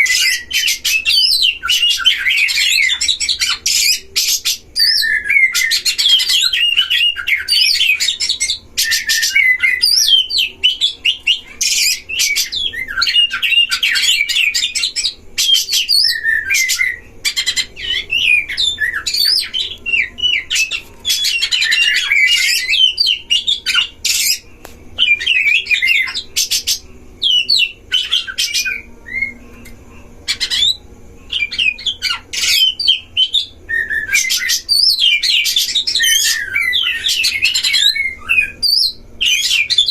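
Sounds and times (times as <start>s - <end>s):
birds twittering and singing: 0.0s - 39.9s.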